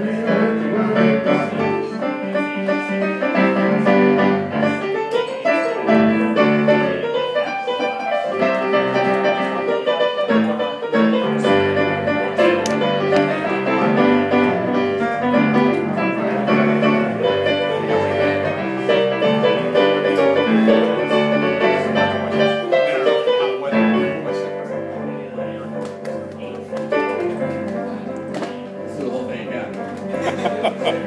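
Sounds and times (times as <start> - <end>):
electronic keyboard piano chords: 0.0 - 31.0.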